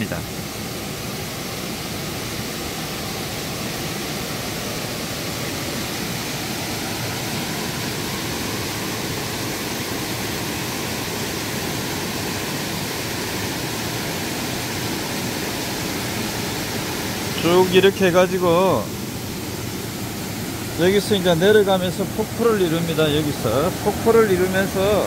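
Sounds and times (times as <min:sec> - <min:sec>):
waterfall pouring into pool: 0:00.1 - 0:25.0.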